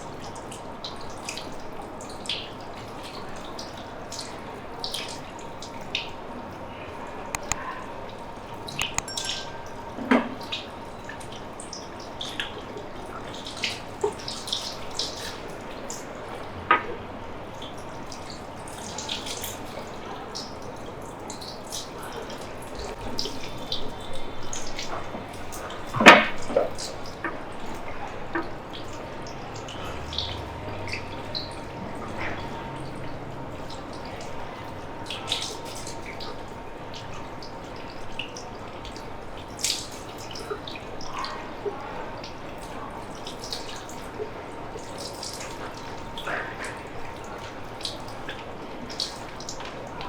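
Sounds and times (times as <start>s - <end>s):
small clicks and splashes: 0.0s - 6.6s, 7.2s - 50.0s
water running and dripping: 0.0s - 50.0s.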